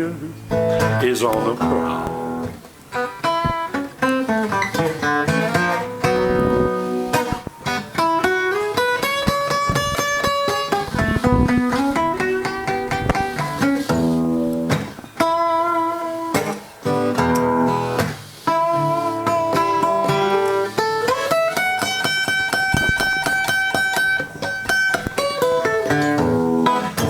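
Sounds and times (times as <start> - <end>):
blues guitar playing: 0.0 - 27.0.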